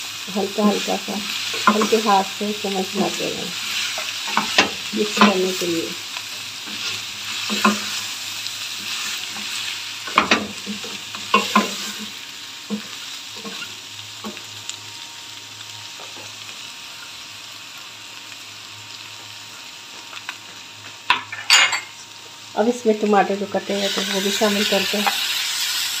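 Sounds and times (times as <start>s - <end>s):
meat and onions sizzling in oil: 0.0s - 26.0s.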